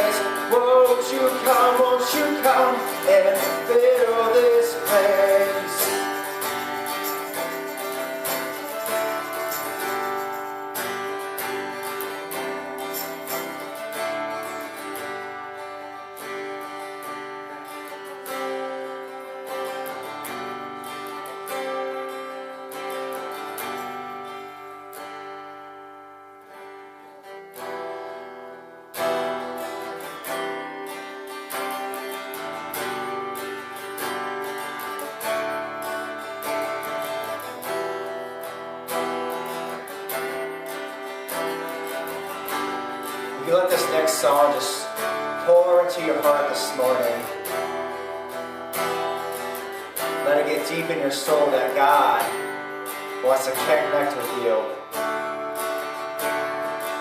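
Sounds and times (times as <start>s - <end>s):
strummed acoustic guitar music: 0.0s - 57.0s.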